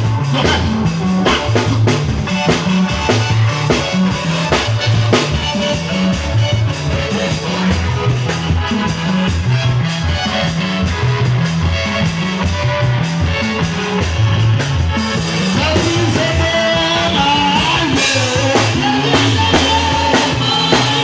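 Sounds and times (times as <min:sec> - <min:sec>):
bass line: 0:00.0 - 0:21.0
drum kit steady beat: 0:00.0 - 0:21.0
guitar: 0:00.0 - 0:21.0.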